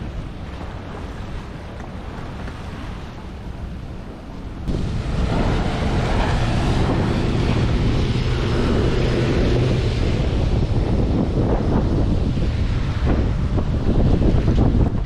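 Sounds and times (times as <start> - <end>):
waves rushing: 0.0 - 15.0
wind buffeting microphone: 0.0 - 15.0.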